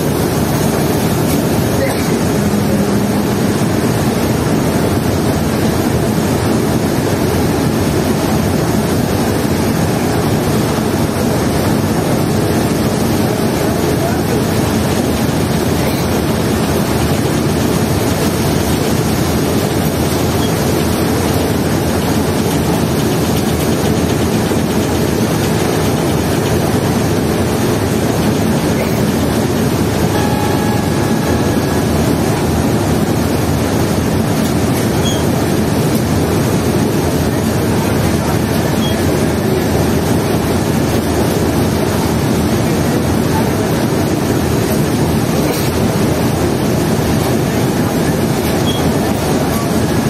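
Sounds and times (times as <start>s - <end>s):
boat diesel engines rumbling: 0.0s - 50.0s
propeller wash churning: 0.0s - 50.0s.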